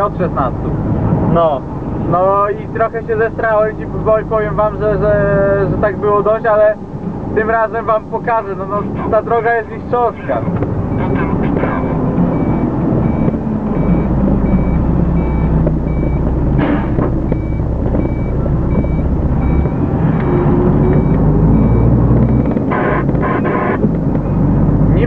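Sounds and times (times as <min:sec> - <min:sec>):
truck diesel engine drone: 0:00.0 - 0:25.0.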